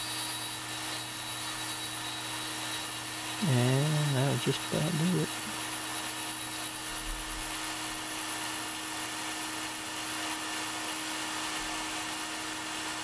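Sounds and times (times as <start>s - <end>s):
milling machine humming and whining: 0.0s - 13.0s.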